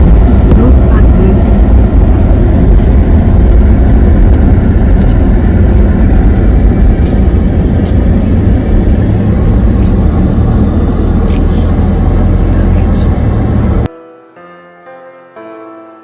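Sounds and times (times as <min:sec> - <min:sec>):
car engine and tyres rumbling: 0:00.0 - 0:13.9.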